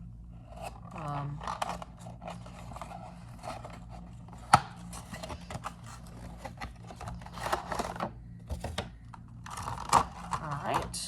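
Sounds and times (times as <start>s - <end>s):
packaging rustling: 0.5s - 11.0s.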